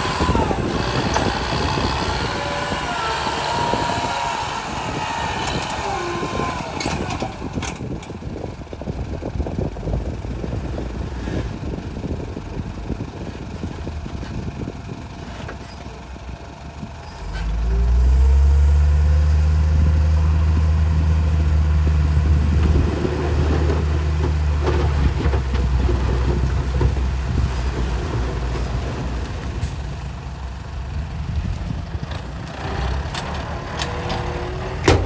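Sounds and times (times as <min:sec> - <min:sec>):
truck engine revving: 0:00.0 - 0:13.0, 0:17.2 - 0:35.0.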